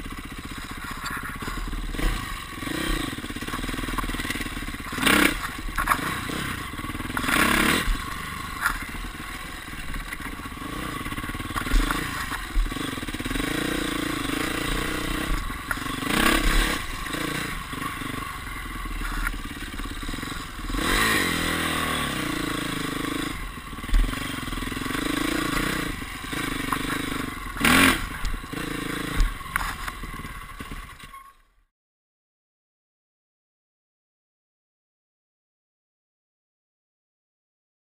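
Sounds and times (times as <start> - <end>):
dirt bike engine revving: 0.0 - 31.3.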